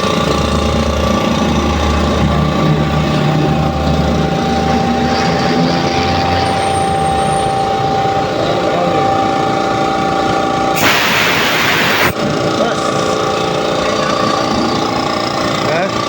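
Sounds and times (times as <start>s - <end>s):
air compressor humming and whining: 0.0s - 16.0s.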